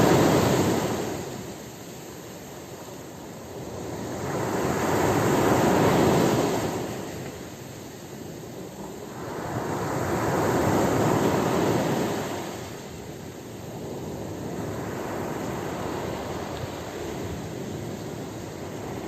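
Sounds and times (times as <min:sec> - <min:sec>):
wash of surf: 0:00.0 - 0:19.0
waves breaking on shore: 0:00.0 - 0:19.0.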